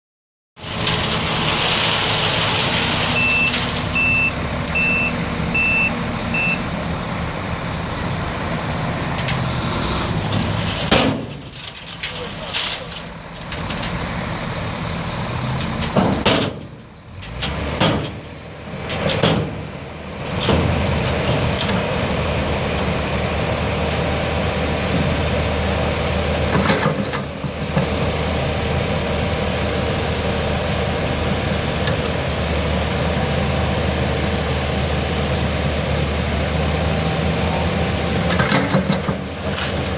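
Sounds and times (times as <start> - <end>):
diesel engine running: 0.6 - 39.9.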